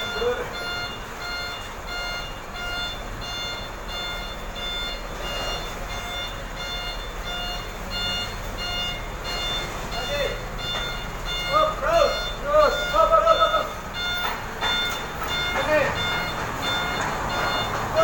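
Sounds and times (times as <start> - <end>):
engine rumble: 0.0 - 18.0
reversing alarm beeping: 0.0 - 18.0.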